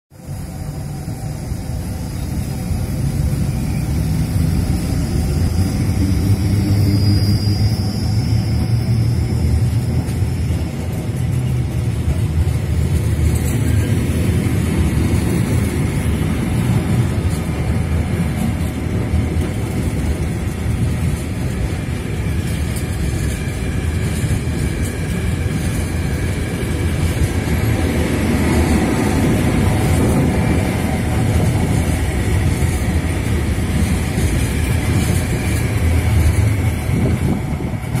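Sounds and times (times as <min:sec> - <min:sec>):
train wheels rumbling on rails: 0:00.1 - 0:38.0.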